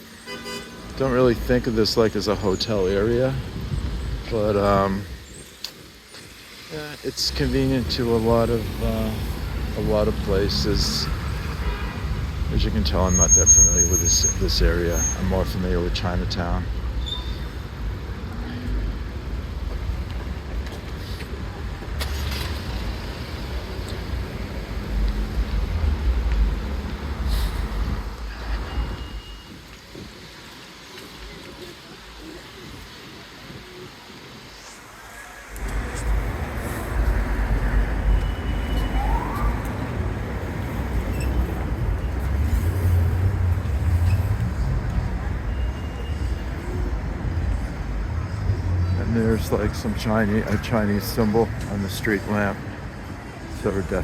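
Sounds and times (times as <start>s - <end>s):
cars and buses passing: 0.0s - 54.0s
low traffic rumble: 0.0s - 54.0s.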